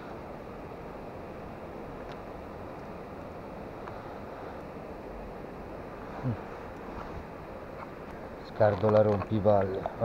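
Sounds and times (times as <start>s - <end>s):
river water rushing at a weir: 0.0s - 8.7s.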